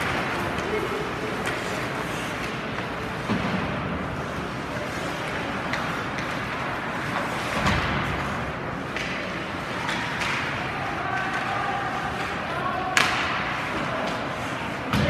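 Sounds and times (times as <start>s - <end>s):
arena noise: 0.0s - 15.0s
hockey sticks and puck clacking: 0.0s - 15.0s.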